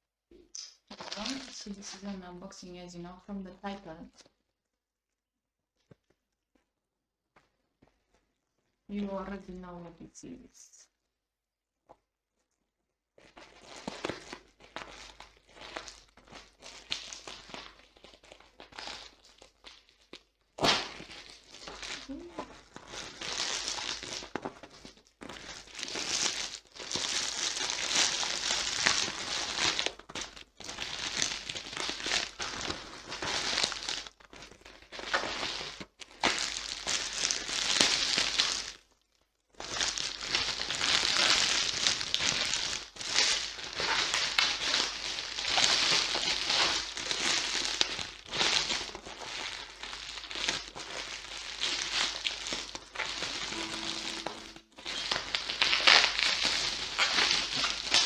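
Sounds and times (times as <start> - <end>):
plastic bag crinkling: 0.8 - 2.7, 13.2 - 58.0.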